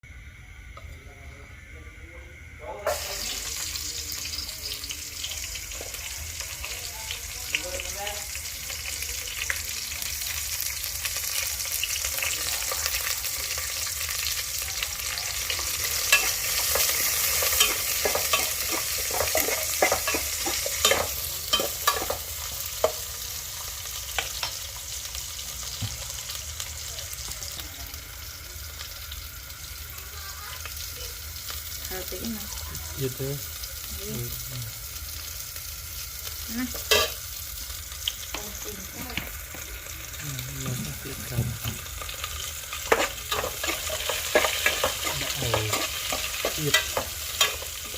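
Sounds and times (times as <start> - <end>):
food sizzling in hot oil: 2.6 - 47.9.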